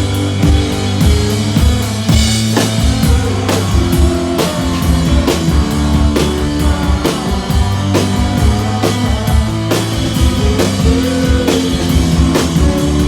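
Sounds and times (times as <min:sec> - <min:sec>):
drum kit beating: 0:00.0 - 0:13.0
rock band playing: 0:00.0 - 0:13.0.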